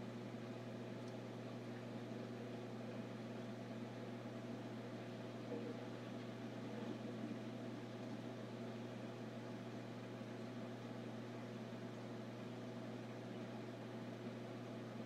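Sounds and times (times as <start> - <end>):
aquarium equipment humming: 0.0 - 15.0.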